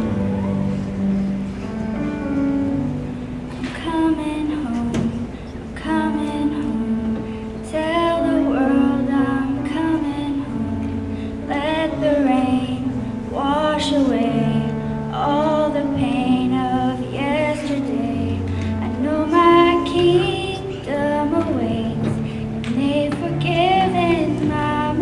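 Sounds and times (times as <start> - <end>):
slow instrumental accompaniment: 0.0 - 25.0
singer holding wavering notes: 4.1 - 25.0.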